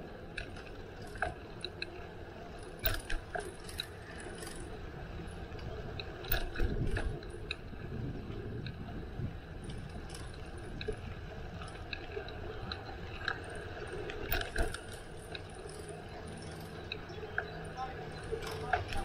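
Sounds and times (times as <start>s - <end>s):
bicycle clicking and rattling: 0.0s - 19.0s.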